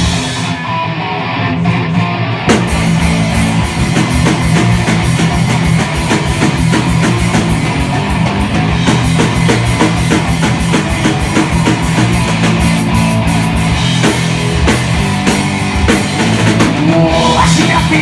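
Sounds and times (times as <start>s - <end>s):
fast drumming: 0.0s - 0.8s, 2.5s - 18.0s
live rock band playing: 0.0s - 18.0s.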